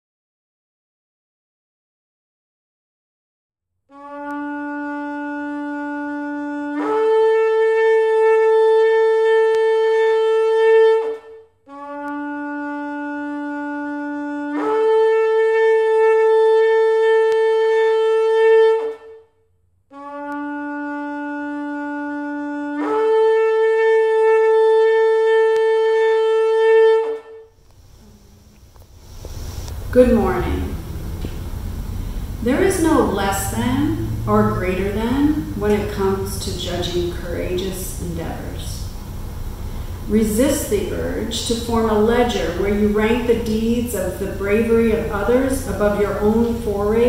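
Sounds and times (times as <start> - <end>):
shofar blasts: 3.9 - 47.0.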